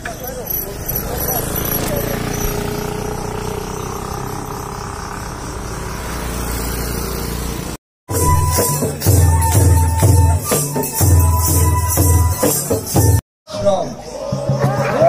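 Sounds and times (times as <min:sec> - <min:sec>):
tambourine: 0:00.1 - 0:07.4, 0:08.1 - 0:13.2.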